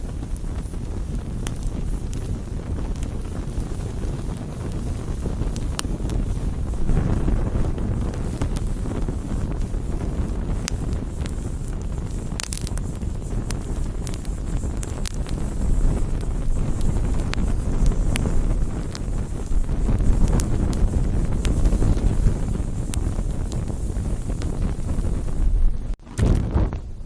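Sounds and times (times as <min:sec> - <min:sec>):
burning wood crackling and popping: 0:00.0 - 0:27.0
campfire rumble: 0:00.0 - 0:27.0.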